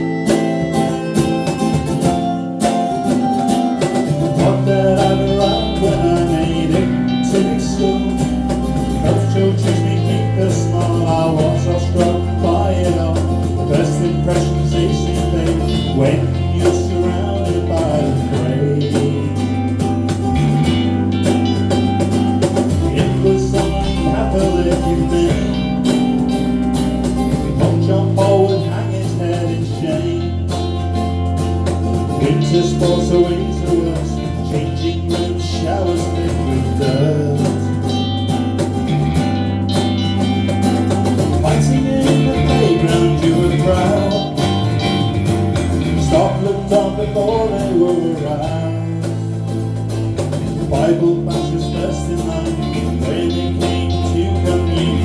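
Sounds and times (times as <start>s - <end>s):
live band music: 0.0s - 55.0s.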